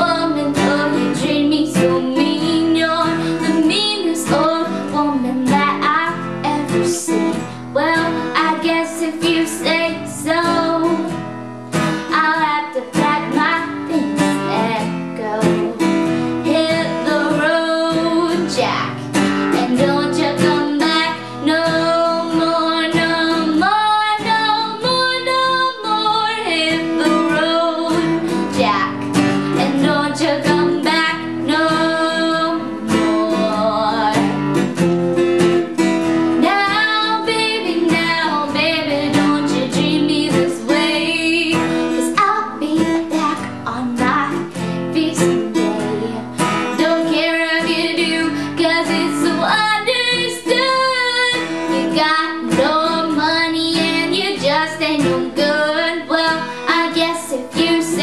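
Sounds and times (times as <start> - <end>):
strummed acoustic guitar: 0.0 - 58.0
young woman singing: 0.0 - 58.0.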